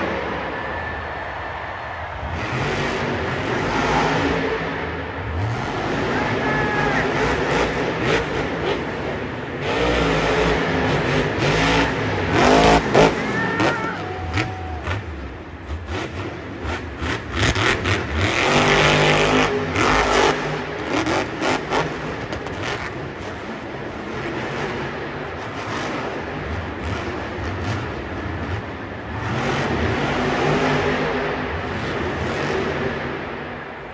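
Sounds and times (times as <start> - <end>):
monster truck engine revving: 2.1 - 33.5.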